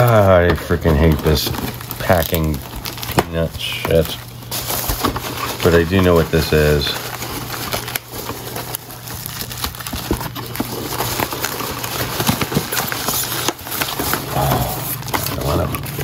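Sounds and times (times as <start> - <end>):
packing peanuts rustling: 0.0 - 16.0.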